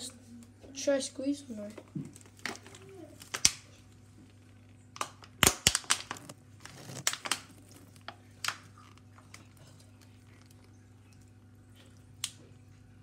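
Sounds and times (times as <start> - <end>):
plastic crinkling and crackling: 1.7 - 12.5.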